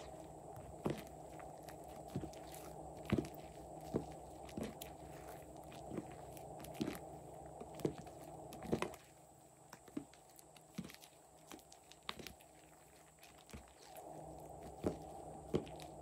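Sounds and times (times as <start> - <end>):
slime squelching: 0.0 - 16.0
steady background noise: 0.0 - 16.0.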